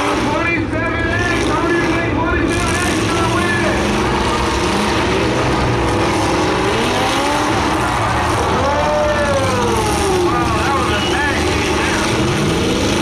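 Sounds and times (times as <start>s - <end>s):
car engines running and revving: 0.0s - 13.0s.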